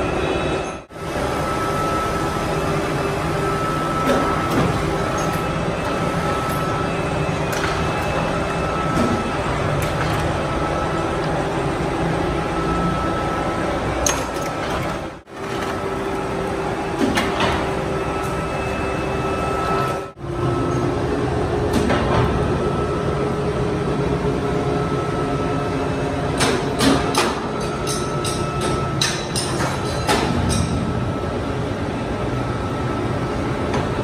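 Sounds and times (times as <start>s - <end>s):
workshop machinery running: 0.0s - 34.0s.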